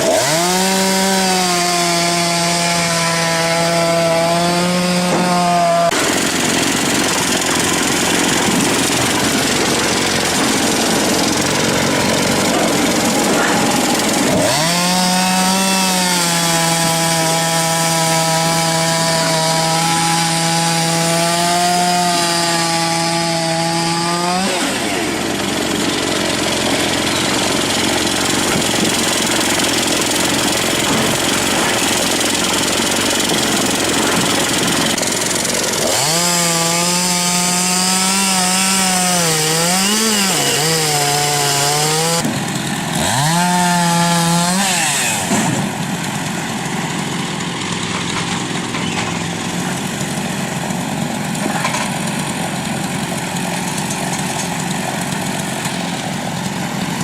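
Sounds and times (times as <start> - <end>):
chainsaw engine running: 0.0 - 57.0
chainsaw rasping through wood: 0.0 - 57.0.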